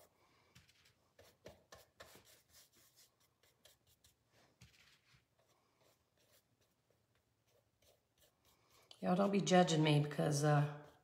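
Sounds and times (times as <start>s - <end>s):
paintbrush strokes on canvas: 0.0s - 11.0s.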